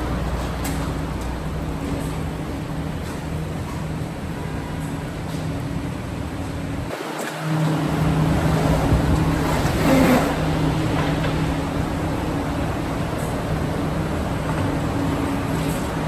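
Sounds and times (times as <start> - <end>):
machinery hum: 0.0 - 16.0
wash of noise: 0.0 - 16.0.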